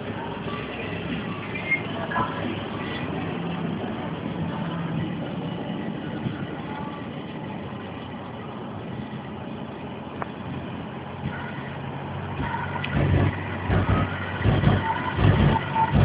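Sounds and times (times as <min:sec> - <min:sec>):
bus diesel engines rumbling: 0:00.0 - 0:16.0.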